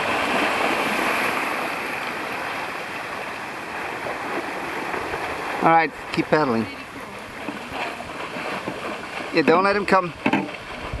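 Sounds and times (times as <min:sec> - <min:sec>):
animals splashing through shallow water: 0:00.0 - 0:11.0.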